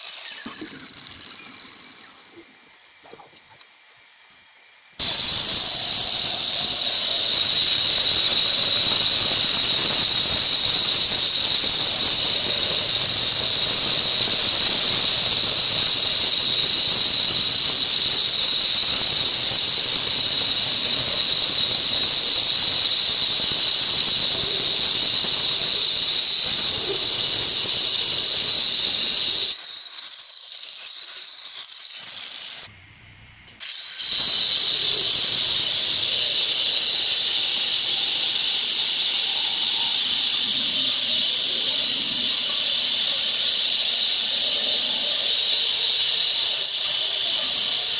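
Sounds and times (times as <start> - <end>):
stone saw whining: 0.0 - 2.6, 5.0 - 32.7, 33.6 - 47.9.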